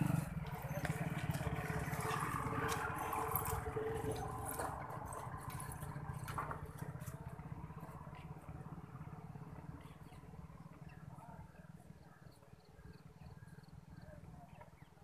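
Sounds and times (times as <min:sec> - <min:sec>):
engine low pulsing rumble: 0:00.0 - 0:15.0.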